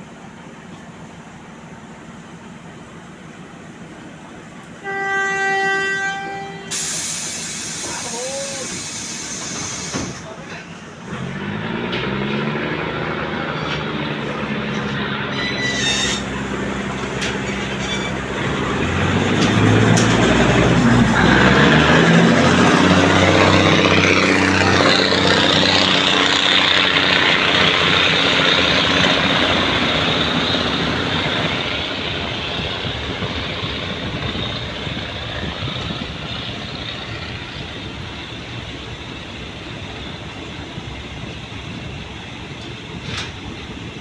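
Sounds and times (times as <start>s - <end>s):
diesel train accelerating: 0.0s - 44.0s.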